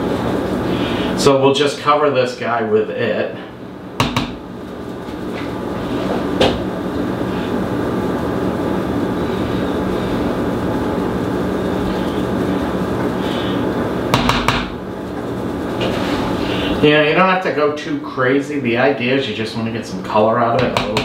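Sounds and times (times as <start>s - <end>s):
steady mechanical rumble: 0.0s - 21.0s.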